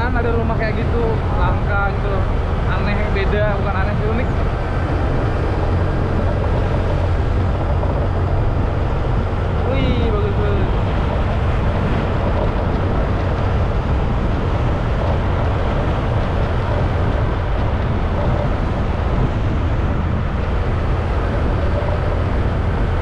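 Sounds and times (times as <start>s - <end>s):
wind noise on microphone: 0.0s - 23.0s
motorcycle engine: 1.0s - 23.0s.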